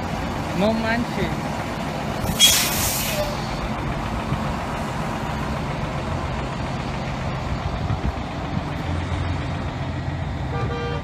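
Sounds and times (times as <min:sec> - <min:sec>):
heavy vehicle engines idling: 0:00.0 - 0:11.0.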